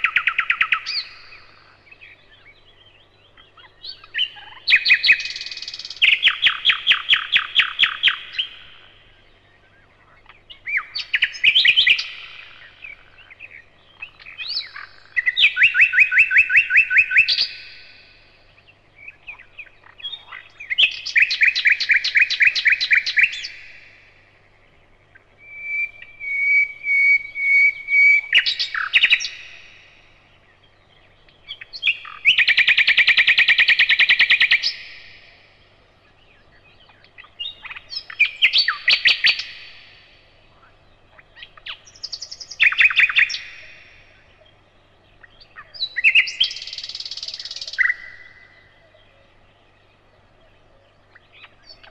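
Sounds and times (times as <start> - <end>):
nightingale singing: 0.0 - 51.9.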